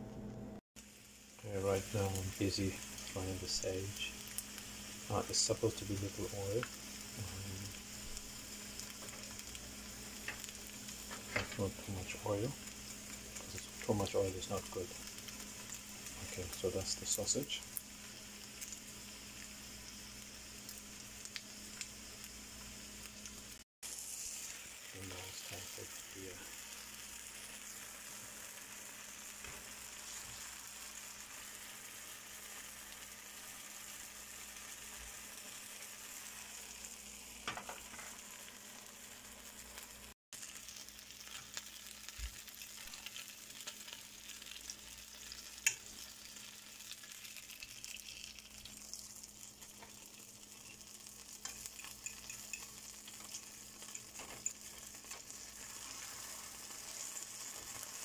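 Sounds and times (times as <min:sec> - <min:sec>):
oil sizzling in frying pan: 0:00.8 - 0:58.0.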